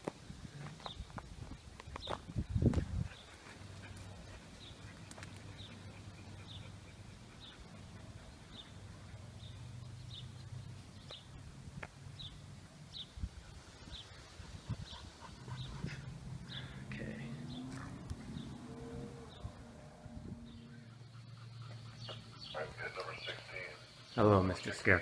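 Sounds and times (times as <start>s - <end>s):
bird chirping: 3.1s - 11.5s, 12.2s - 19.7s, 20.3s - 25.0s.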